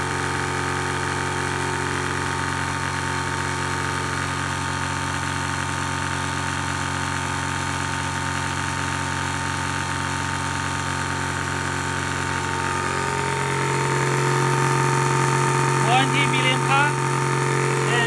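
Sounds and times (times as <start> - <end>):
air compressor humming: 0.0 - 18.0.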